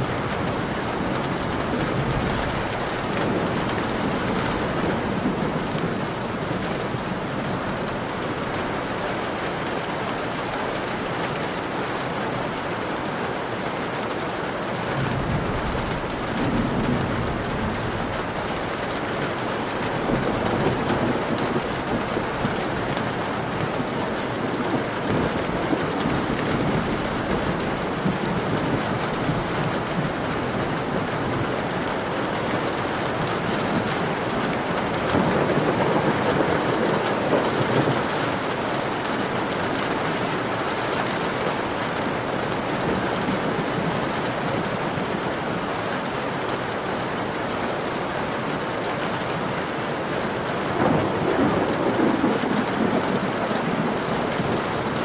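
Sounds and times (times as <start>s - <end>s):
thunder rumbling: 0.0s - 11.1s, 14.8s - 45.4s, 50.2s - 55.0s
rain on window glass: 0.0s - 55.0s.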